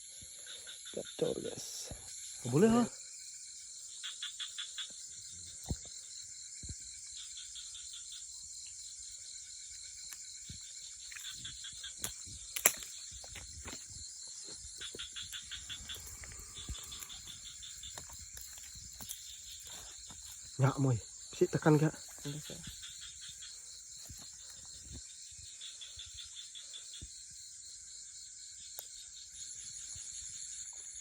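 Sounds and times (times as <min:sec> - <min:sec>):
frogs pulsed calls: 0:00.0 - 0:31.0
insects trilling: 0:00.0 - 0:31.0.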